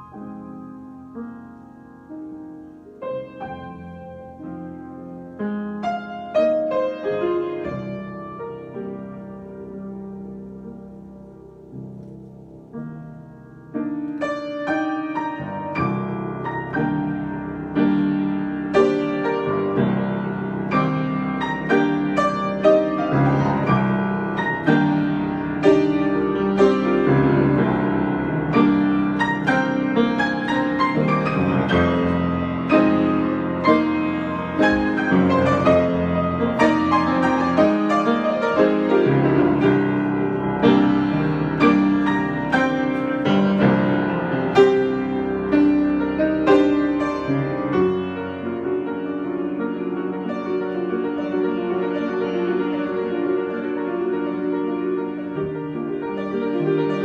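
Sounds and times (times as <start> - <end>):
solo piano improvisation: 0.0 - 57.0.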